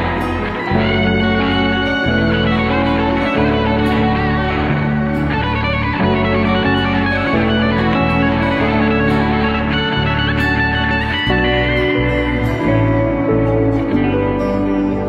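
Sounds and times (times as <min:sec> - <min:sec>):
guitar instrumental music: 0:00.0 - 0:15.0.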